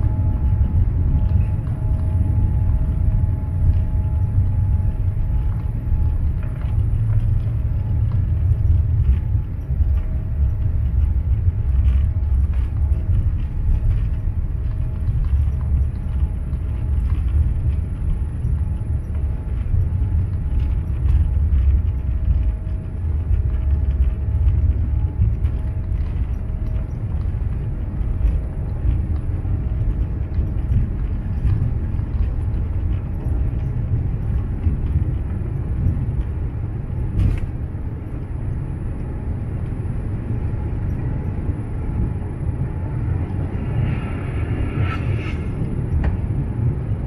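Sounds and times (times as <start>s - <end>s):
faint steady whine: 0.0s - 47.0s
low engine and wheel rumble: 0.0s - 47.0s.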